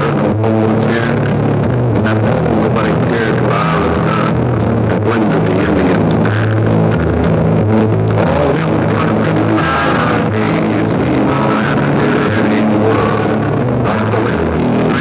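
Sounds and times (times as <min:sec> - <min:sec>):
rock music with guitar and bass: 0:00.0 - 0:15.0.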